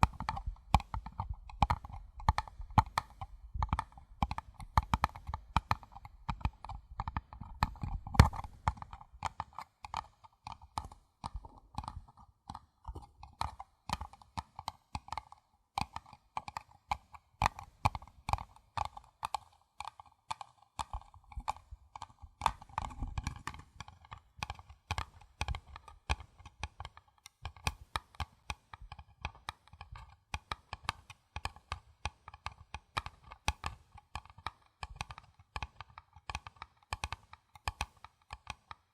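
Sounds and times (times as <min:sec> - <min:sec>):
tapping on a paper cup: 0:00.0 - 0:38.9.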